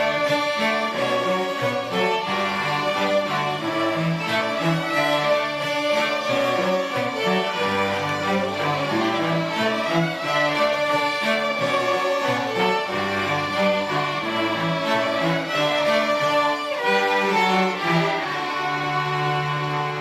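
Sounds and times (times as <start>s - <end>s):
cellos playing bass notes: 0.0s - 20.0s
violins playing melody: 0.0s - 20.0s.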